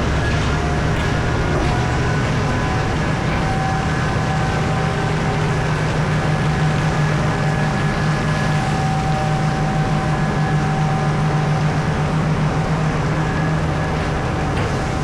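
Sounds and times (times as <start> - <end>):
heavy machinery engine hum: 0.0 - 15.0
steady high whine: 0.0 - 15.0.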